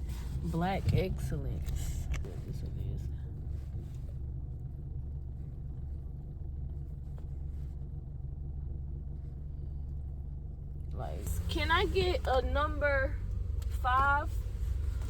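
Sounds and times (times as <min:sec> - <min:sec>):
car engine rumble from inside: 0:00.0 - 0:15.0.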